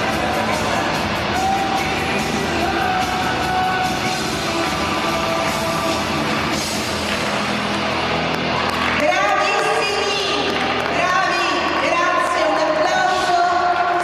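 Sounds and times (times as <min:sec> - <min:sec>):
line dance music: 0:00.0 - 0:11.5.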